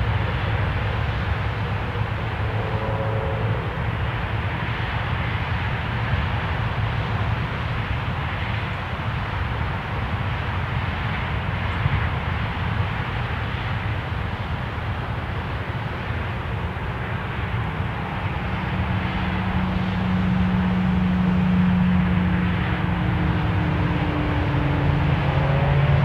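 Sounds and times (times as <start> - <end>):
distant engine drone: 0.0 - 26.0.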